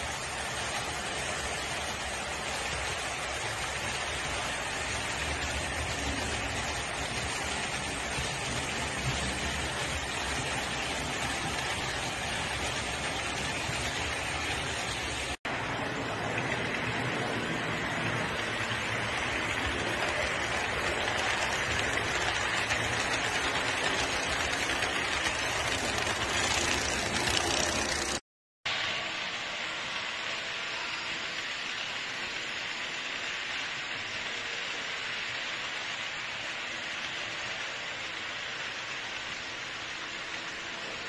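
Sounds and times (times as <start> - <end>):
model trains rolling on track: 0.0 - 41.0.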